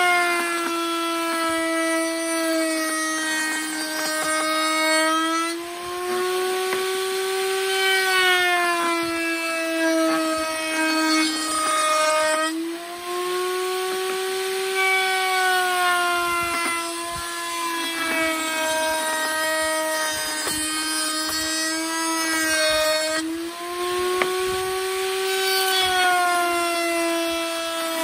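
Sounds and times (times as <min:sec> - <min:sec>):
router whining cutting wood: 0:00.0 - 0:28.0.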